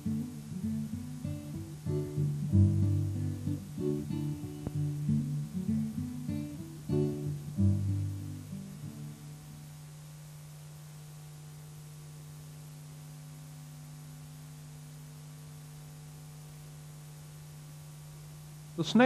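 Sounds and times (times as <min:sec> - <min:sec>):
faint tape hiss: 0:00.0 - 0:19.0
low electrical hum: 0:00.0 - 0:19.0.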